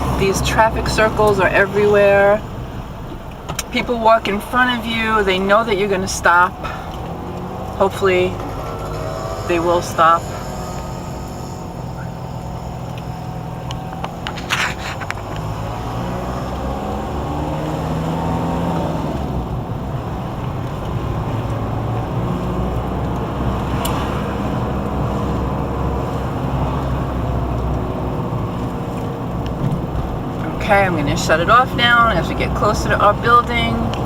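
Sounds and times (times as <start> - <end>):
car engine: 0.0 - 34.0
road noise inside car: 0.0 - 34.0.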